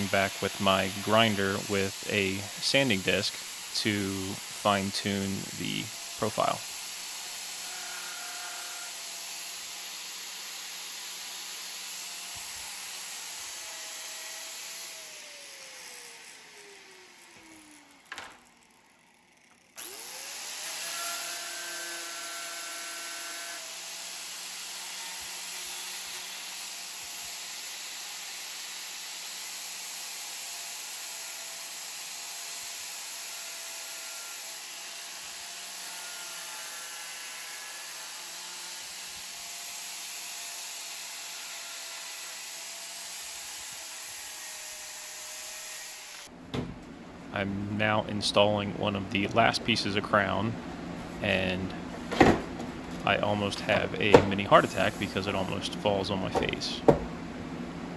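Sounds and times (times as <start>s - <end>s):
angle grinder sanding wood: 0.0s - 46.4s, 52.9s - 56.8s.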